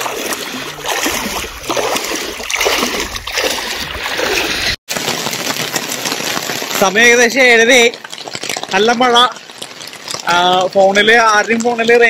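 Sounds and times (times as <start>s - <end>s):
water splashing around wading person: 0.0s - 10.3s.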